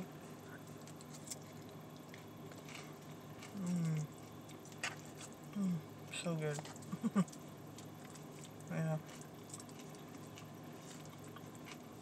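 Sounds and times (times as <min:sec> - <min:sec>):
chewing food: 0:00.3 - 0:12.0.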